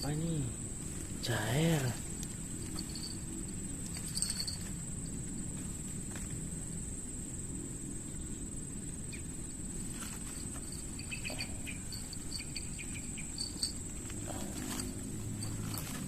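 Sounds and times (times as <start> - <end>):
insects trilling: 0.0 - 16.0
low background rumble: 0.0 - 16.0.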